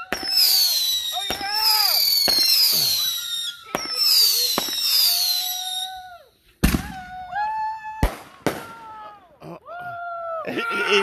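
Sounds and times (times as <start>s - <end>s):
firework cracks: 0.0s - 9.2s
whistling fireworks: 0.0s - 9.2s.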